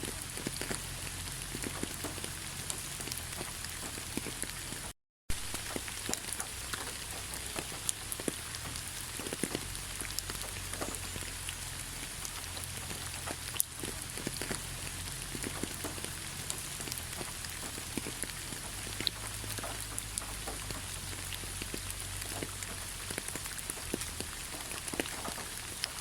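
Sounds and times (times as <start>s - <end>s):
rain falling: 0.0s - 26.0s
raindrops ticking: 0.0s - 26.0s.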